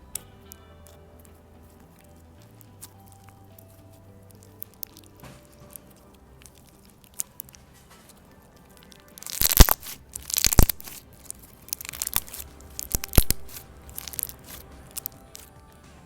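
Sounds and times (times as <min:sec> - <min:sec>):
faint background music: 0:00.0 - 0:16.0
slime with beads crunching: 0:00.9 - 0:15.6.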